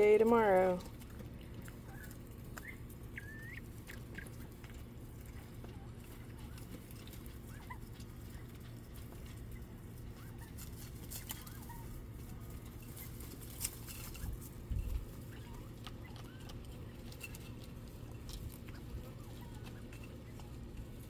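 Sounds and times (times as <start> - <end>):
quail chirping: 0.0 - 21.0
steady low hum: 0.0 - 21.0
small clicks and rustles: 0.7 - 21.0.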